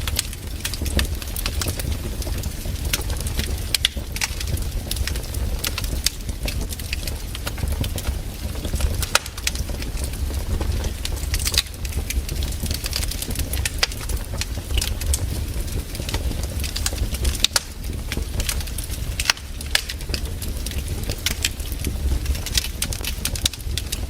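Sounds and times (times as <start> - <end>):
campfire crackling and popping: 0.0 - 24.0
steady low rumble: 0.0 - 24.0.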